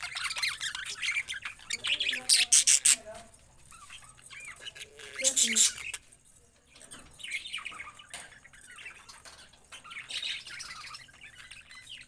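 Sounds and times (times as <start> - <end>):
budgerigars chirping: 0.0 - 6.1, 6.8 - 12.0.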